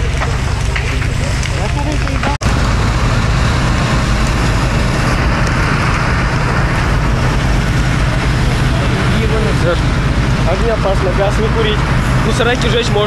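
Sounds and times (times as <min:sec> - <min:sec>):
vehicle engines idling: 0:00.0 - 0:13.0.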